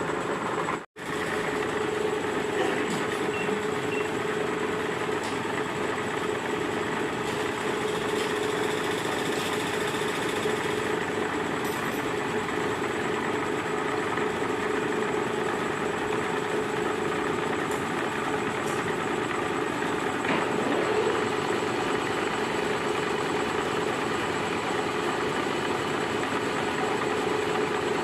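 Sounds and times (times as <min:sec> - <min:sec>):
milling machine running: 0:00.0 - 0:28.0.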